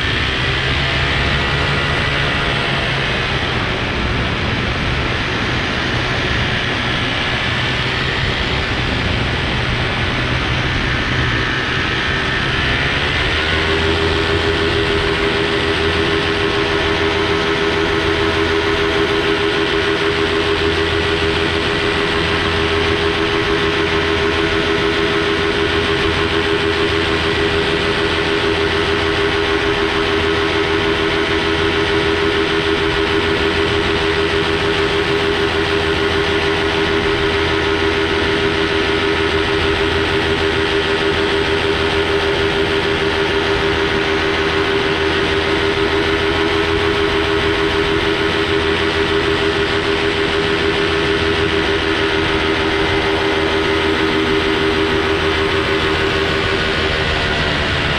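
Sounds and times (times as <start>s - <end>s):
paramotor engine and propeller: 0.0s - 57.9s.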